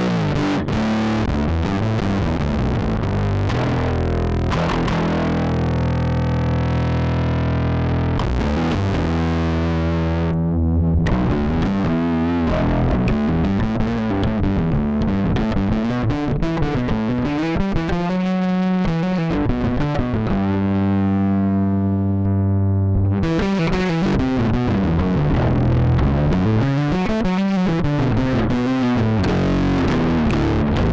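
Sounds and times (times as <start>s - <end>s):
distorted electric bass: 0.0s - 30.9s.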